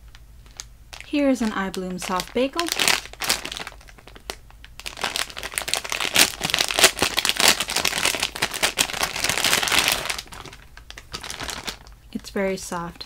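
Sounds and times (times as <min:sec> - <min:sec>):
plastic bag crinkling: 0:00.0 - 0:12.3.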